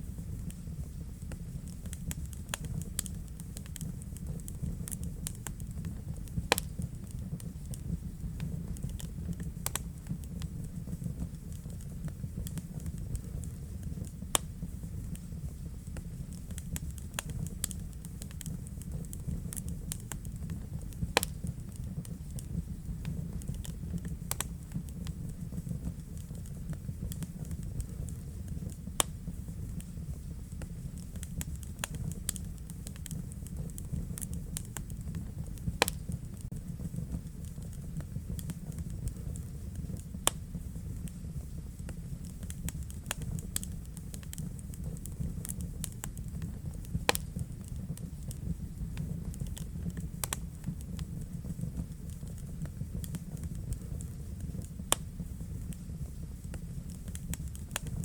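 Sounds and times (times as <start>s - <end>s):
fireplace fire crackling: 0.0s - 58.0s.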